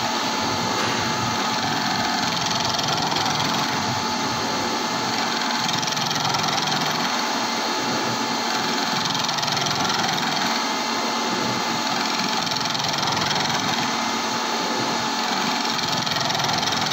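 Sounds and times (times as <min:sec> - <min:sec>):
milling machine cutting metal: 0:00.0 - 0:16.9.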